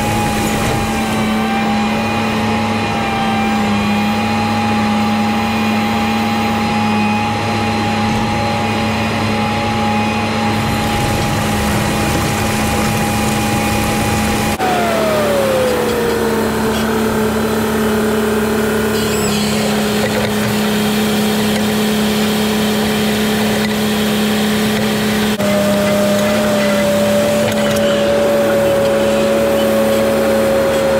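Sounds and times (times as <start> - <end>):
high whine: 0.0 - 30.9
tractor engine running under load: 0.0 - 30.9.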